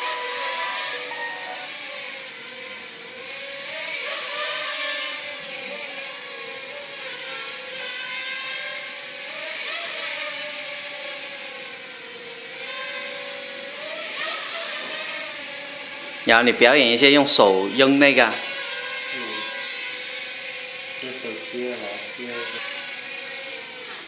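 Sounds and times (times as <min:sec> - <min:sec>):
quadcopter propellers whining: 0:00.0 - 0:24.0.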